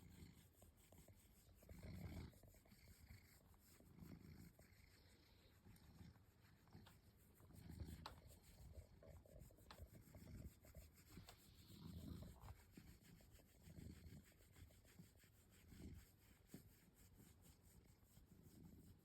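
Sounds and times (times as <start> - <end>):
hand scratching cat fur: 0.0 - 19.0.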